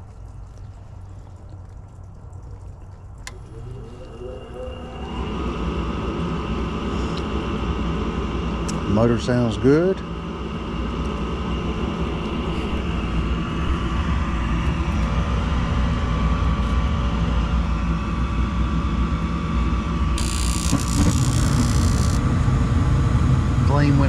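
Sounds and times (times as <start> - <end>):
furnace inducer motor humming: 0.0 - 24.0.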